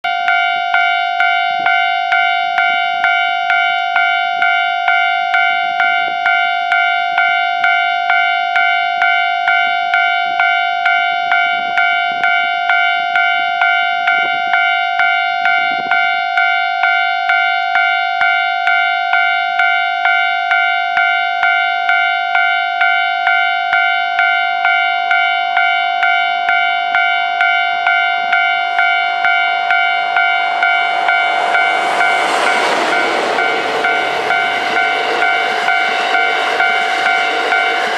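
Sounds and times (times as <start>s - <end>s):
level crossing warning bell: 0.0s - 37.9s.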